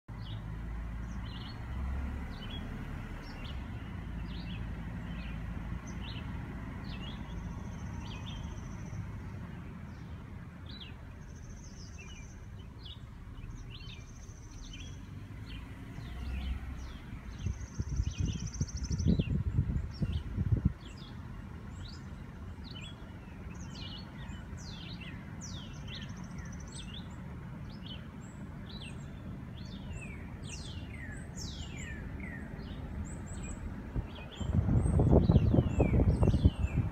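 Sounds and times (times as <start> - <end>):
birds chirping: 0.1 - 36.9.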